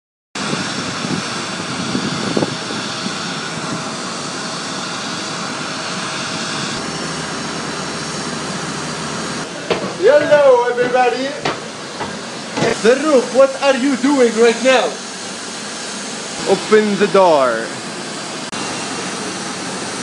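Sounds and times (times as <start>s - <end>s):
jet engine with faint whine: 0.4s - 20.0s.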